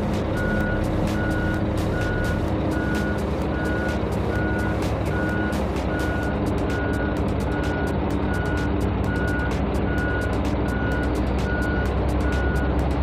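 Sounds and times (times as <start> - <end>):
diesel engine drone: 0.0 - 13.0
excavator travel alarm beeping: 0.0 - 13.0.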